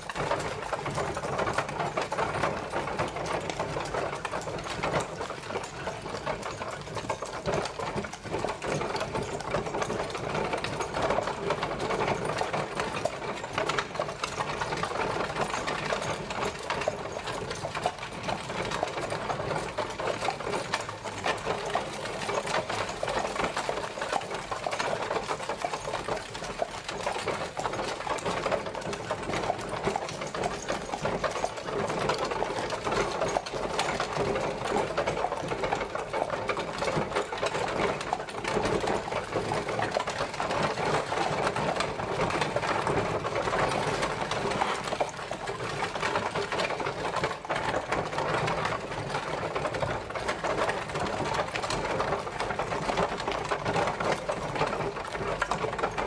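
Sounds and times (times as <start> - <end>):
horse-drawn carriage clattering: 0.0 - 56.0.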